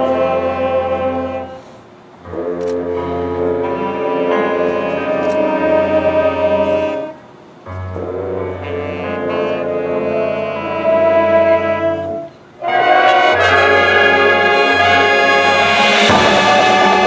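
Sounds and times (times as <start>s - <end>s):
brass band sustained chords: 0.0s - 1.6s, 2.2s - 17.0s.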